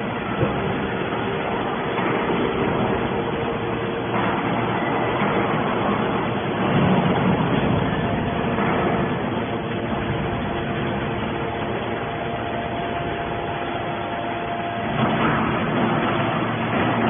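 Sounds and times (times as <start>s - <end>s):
hydraulic baler running: 0.0s - 17.0s.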